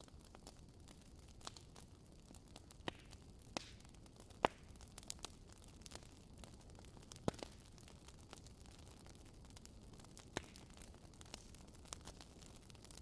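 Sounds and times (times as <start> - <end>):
fire crackling and popping: 0.0 - 13.0
low steady hiss: 0.0 - 13.0.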